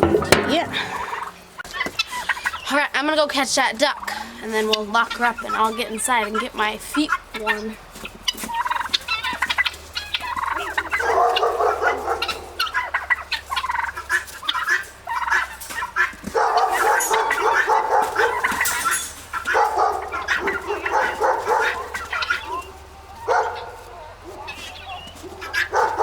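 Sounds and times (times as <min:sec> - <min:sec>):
guinea fowl calling: 0:00.0 - 0:02.8, 0:04.0 - 0:26.0.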